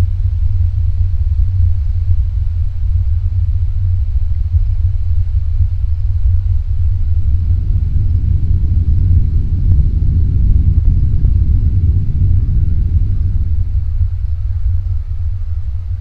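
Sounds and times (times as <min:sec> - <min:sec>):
low-frequency rumble: 0:00.0 - 0:16.0.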